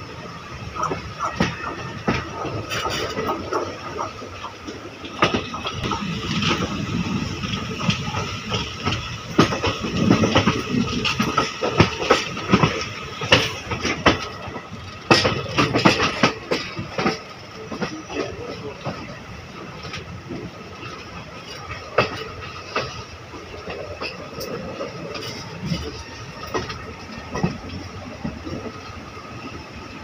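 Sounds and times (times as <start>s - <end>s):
train wheels rumbling: 0.0s - 30.0s
wheels clicking on rails: 0.0s - 30.0s.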